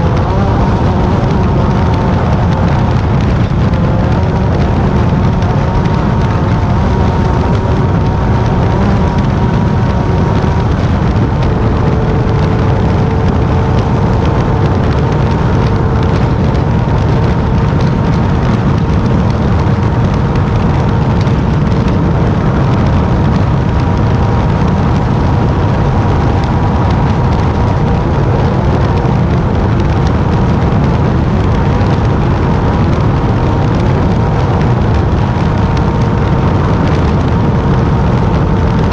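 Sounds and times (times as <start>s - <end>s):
buggy engine rumble: 0.0s - 38.9s.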